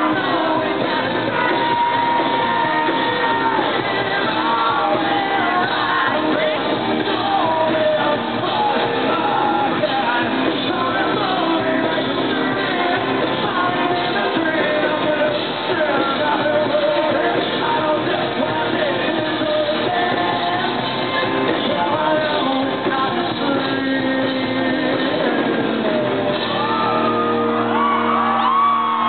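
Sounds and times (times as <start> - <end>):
man singing: 0.0 - 26.6
electric guitar: 0.0 - 29.0
live rock band playing: 0.0 - 29.0.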